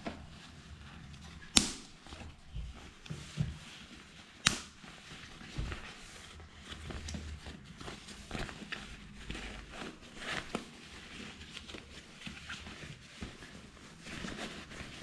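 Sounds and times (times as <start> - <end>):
rain jacket rustling: 0.0 - 15.0.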